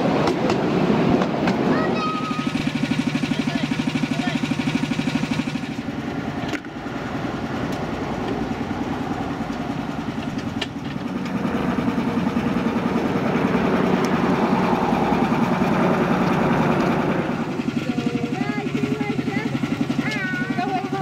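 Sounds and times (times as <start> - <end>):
locomotive engine idling: 0.0 - 21.0.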